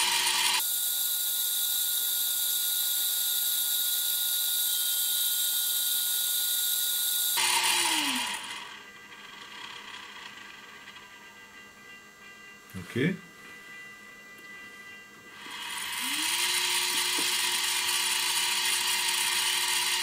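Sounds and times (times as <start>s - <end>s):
small electric motor whirring: 0.0s - 11.4s, 15.3s - 20.0s.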